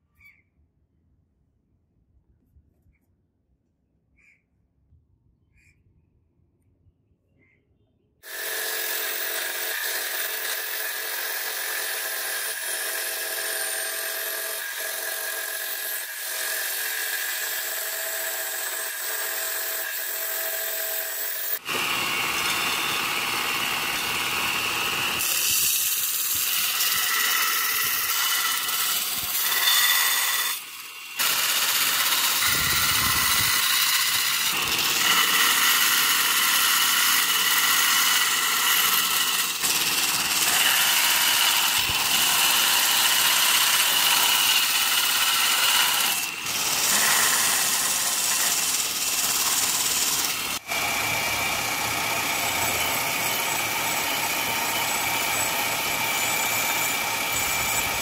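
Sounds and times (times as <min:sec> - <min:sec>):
power tool running: 0:08.2 - 0:58.0
belt sander grinding wood: 0:08.3 - 0:58.0.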